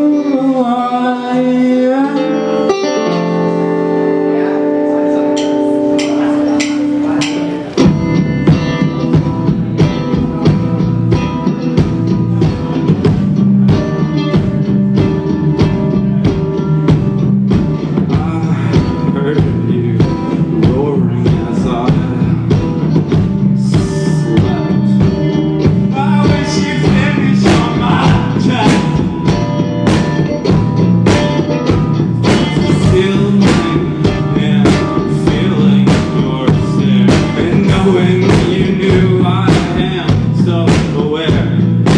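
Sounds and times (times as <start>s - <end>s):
live rock band playing: 0.0s - 41.9s
drum kit beat: 5.2s - 41.9s.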